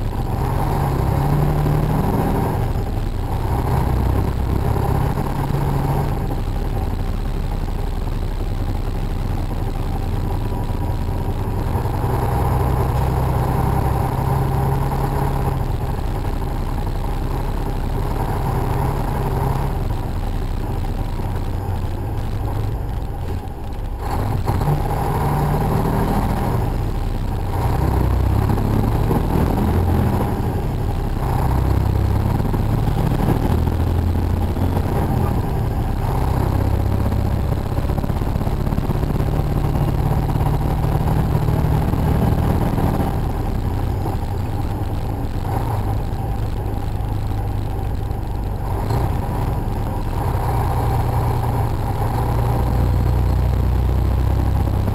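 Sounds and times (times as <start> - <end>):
road noise inside cab: 0.0 - 54.9
truck engine: 0.0 - 54.9.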